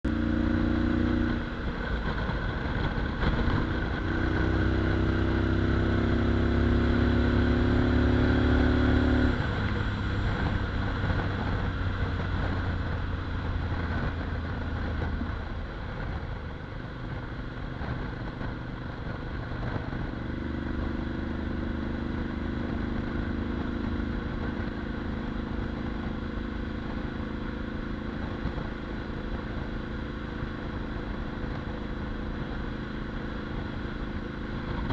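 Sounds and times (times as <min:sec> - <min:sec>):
deep motorcycle engine: 0:00.0 - 0:34.9.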